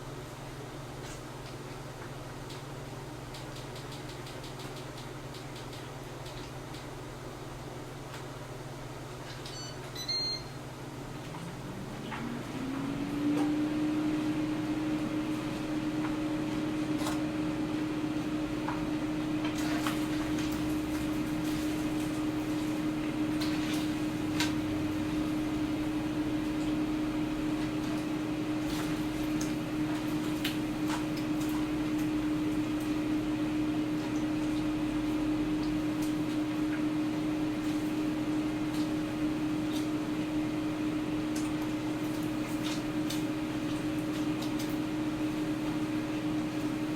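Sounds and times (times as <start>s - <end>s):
air fryer fan humming: 0.0s - 46.9s.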